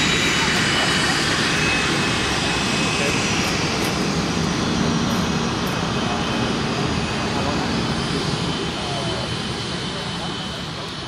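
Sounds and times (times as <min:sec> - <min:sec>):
jet turbine whine and rumble: 0:00.0 - 0:11.0.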